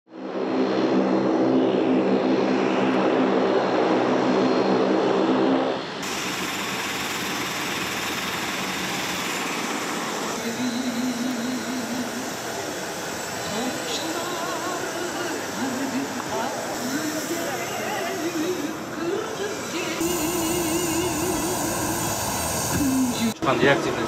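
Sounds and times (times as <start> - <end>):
outdoor noise: 0.1 - 24.0
turboprop propeller drone: 0.1 - 24.0.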